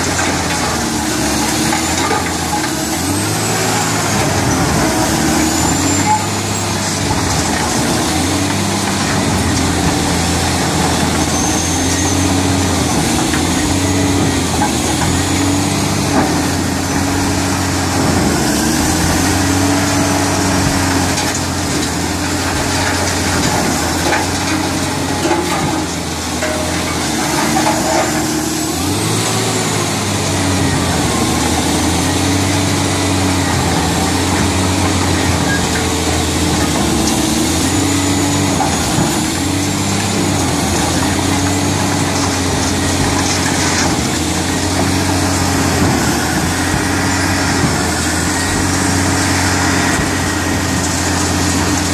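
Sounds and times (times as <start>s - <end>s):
concrete being shredded: 0.0s - 51.9s
diesel machinery running under load: 0.0s - 51.9s.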